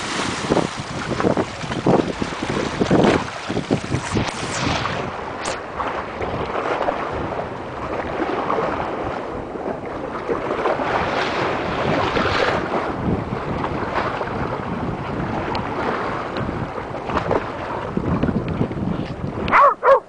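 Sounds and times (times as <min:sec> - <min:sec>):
small sea waves: 0:00.0 - 0:20.0
wind buffeting microphone: 0:00.0 - 0:20.0.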